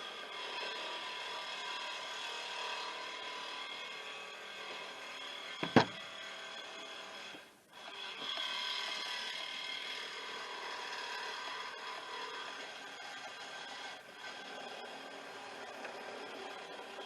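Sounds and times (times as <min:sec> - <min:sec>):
reciprocating saw cutting metal: 0:00.0 - 0:17.0.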